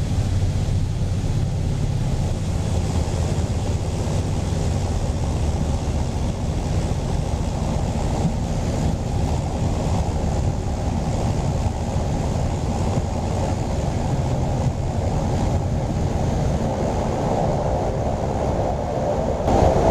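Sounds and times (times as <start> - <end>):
rushing airflow: 0.0 - 19.9
turboprop engine drone in cabin: 0.0 - 19.9.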